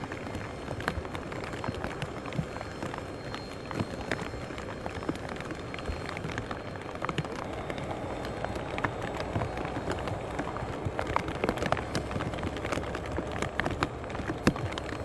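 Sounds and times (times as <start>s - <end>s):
crackles and knocks: 0.0s - 15.0s
wind and rain rumble: 0.0s - 15.0s.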